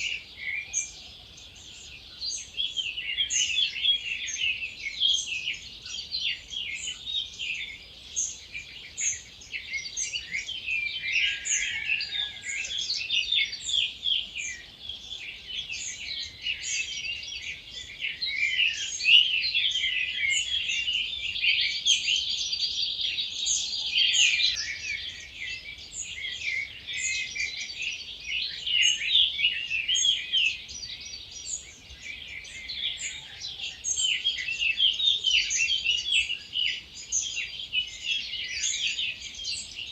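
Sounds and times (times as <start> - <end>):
many wild birds singing: 0.0 - 39.9.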